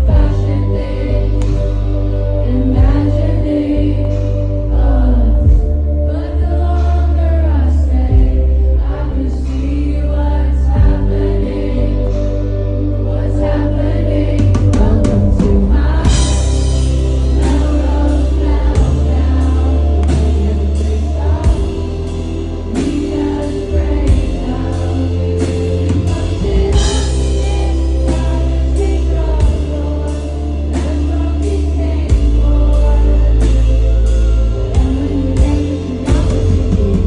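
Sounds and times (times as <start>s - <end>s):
woman singing: 0.0s - 12.1s, 13.0s - 37.0s
live band playing: 0.0s - 37.0s.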